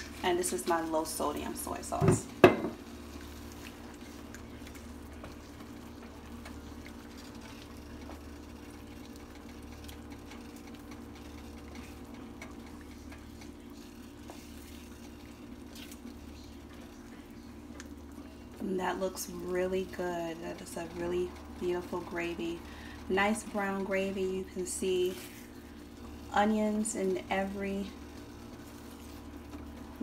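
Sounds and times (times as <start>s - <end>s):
wooden spoon stirring: 0.0s - 18.6s, 23.3s - 30.0s
gravy simmering with pops: 0.0s - 30.0s
steady low hum: 0.0s - 30.0s.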